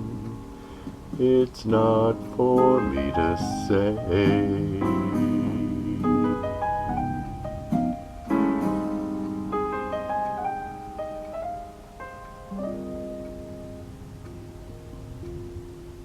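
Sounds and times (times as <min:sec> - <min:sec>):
piano ballad: 0:00.0 - 0:16.0.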